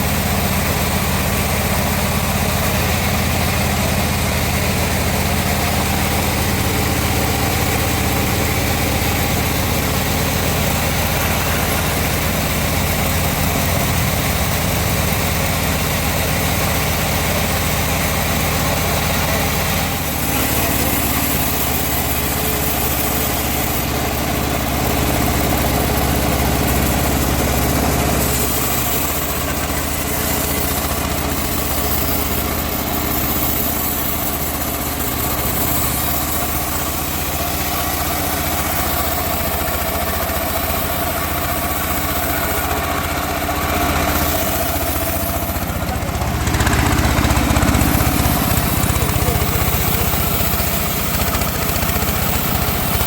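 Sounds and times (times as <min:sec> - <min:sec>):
sawmill machine sawing: 0:00.0 - 0:53.0.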